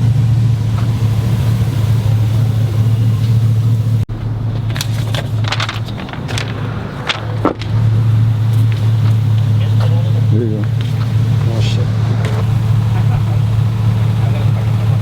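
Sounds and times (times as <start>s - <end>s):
pickup truck engine idling: 0.0s - 15.0s.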